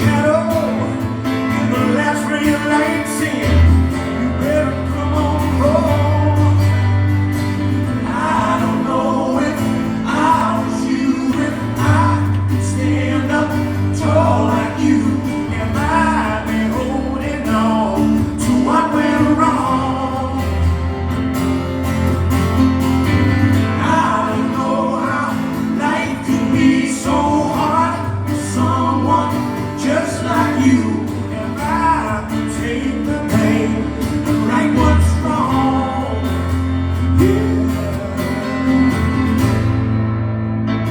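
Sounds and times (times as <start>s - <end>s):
man singing: 0.0s - 21.1s, 23.3s - 39.6s
acoustic guitar: 0.0s - 40.9s
steady low notes: 0.0s - 40.9s.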